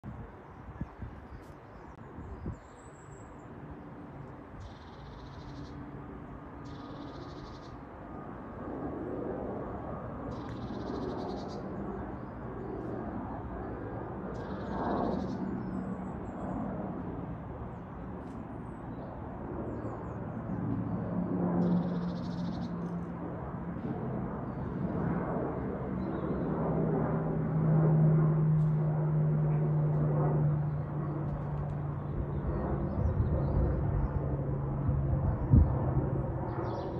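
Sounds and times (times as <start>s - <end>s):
jet engines droning overhead: 0.0s - 36.9s.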